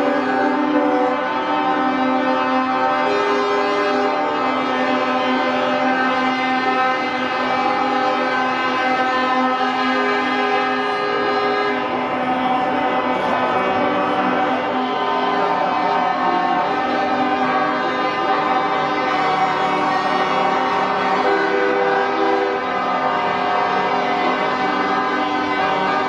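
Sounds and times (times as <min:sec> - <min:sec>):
truck air horns: 0:00.0 - 0:26.0.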